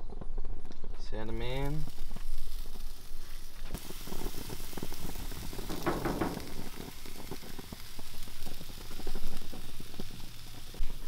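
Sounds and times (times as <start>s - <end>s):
food sizzling on grill: 1.2s - 11.0s.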